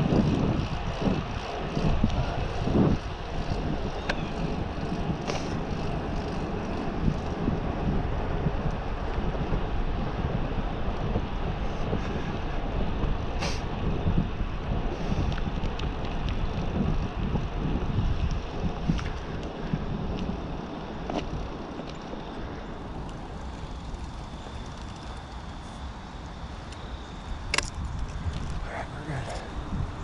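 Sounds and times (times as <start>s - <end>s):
bicycle tyre and drivetrain noise: 0.0s - 30.0s
wind rush on microphone: 0.0s - 30.0s.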